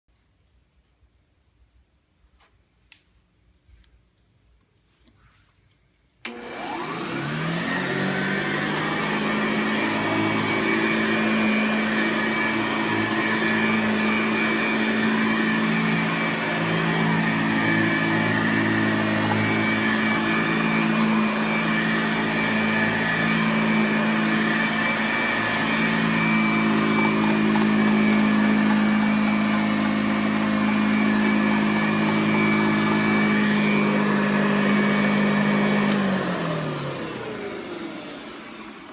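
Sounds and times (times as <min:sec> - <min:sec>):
vacuum cleaner motor whining: 0:06.2 - 0:38.9.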